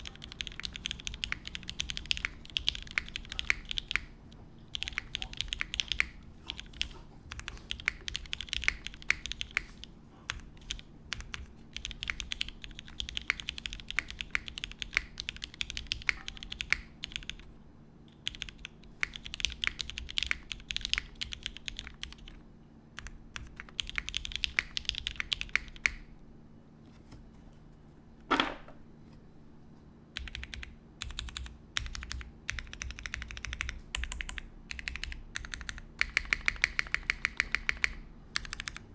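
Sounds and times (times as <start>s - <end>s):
mechanical keyboard typing: 0.0s - 17.5s, 18.1s - 22.4s, 23.0s - 26.0s, 30.2s - 38.9s.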